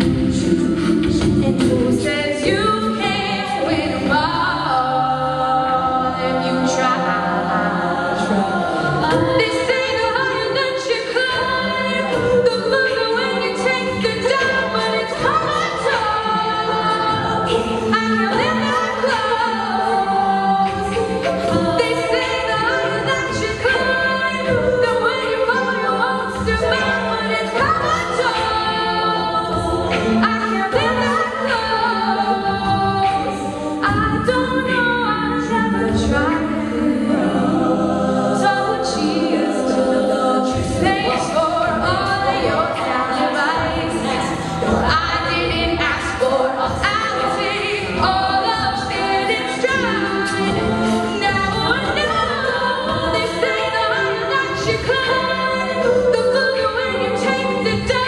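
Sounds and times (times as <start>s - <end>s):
female group singing in harmony: 0.0s - 58.0s
vocal percussion beat: 0.0s - 58.0s.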